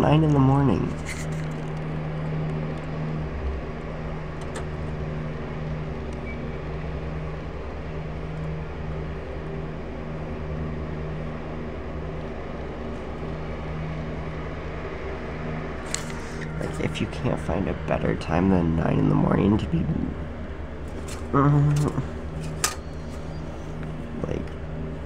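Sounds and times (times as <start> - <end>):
small engine droning: 0.0 - 25.0.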